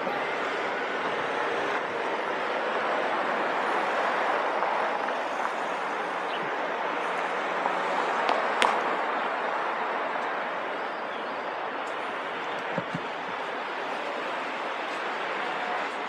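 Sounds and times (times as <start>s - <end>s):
passing traffic: 0.0s - 16.0s.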